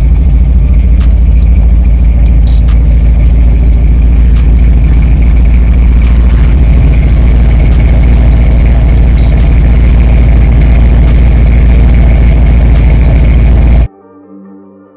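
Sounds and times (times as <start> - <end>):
car engine running: 0.0 - 13.9.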